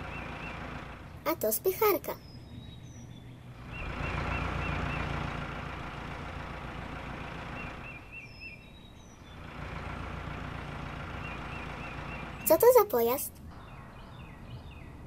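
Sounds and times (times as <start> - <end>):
heavy vehicle engine passing: 0.0 - 1.4, 3.4 - 15.0.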